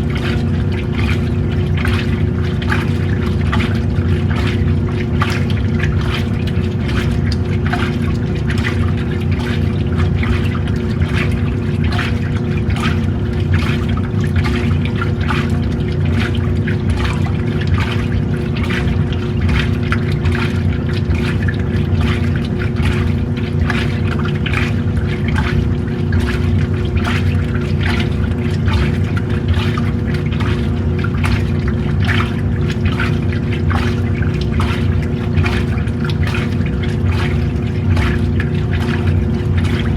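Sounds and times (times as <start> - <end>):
washing machine motor hum: 0.0 - 39.9
water sloshing and splashing: 0.0 - 39.9.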